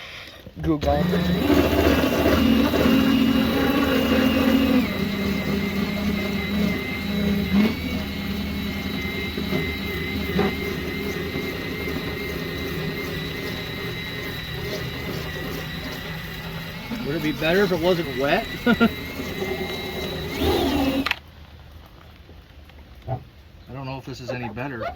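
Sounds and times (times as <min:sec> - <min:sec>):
power tool motor whine: 0:00.8 - 0:21.2.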